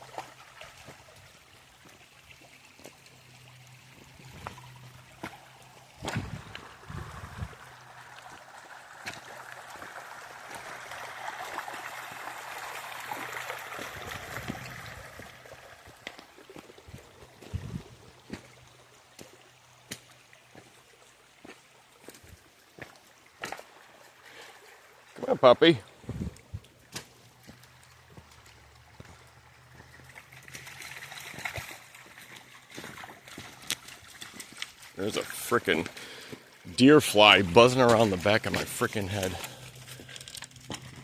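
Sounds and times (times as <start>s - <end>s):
creek water trickling over rocks: 0.0s - 41.0s
footsteps wading through water: 0.0s - 41.0s.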